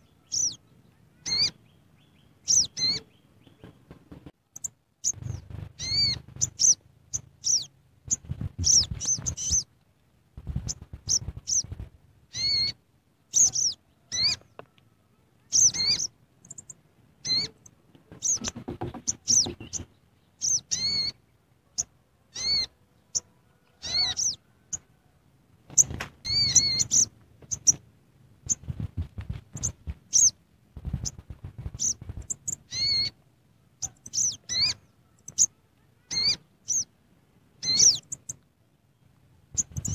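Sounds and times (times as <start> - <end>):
bird chirping: 0.0 - 9.7, 10.4 - 25.0, 25.7 - 37.0, 37.6 - 39.9.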